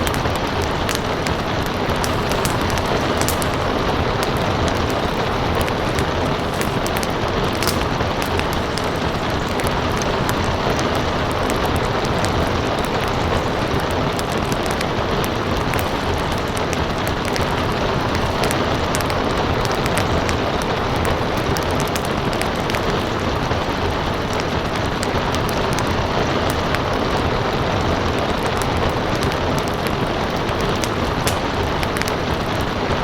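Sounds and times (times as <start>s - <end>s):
steady rain: 0.0s - 33.0s
wood fire crackling: 0.0s - 33.0s.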